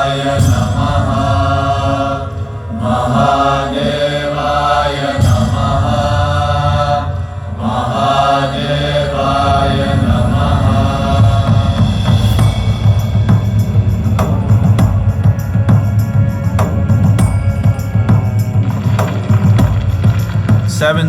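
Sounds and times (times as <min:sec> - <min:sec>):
steady low drone: 0:00.0 - 0:21.0
voices chanting a mantra: 0:00.0 - 0:21.0.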